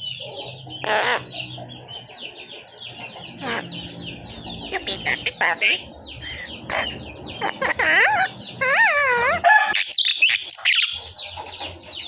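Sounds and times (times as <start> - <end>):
harsh squawky bird calls: 0.0 - 12.0.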